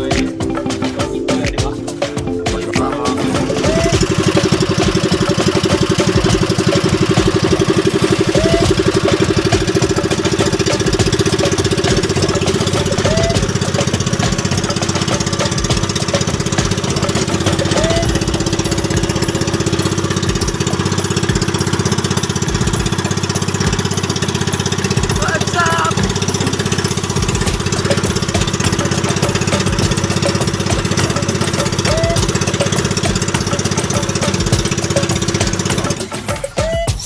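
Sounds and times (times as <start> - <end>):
boat engine chugging: 0.0 - 37.0.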